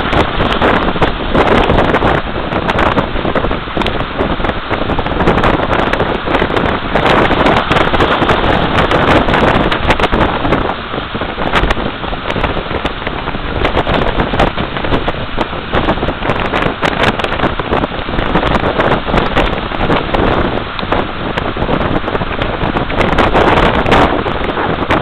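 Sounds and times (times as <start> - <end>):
breaking surf: 0.0 - 25.0
storm wind buffeting microphone: 0.0 - 25.0.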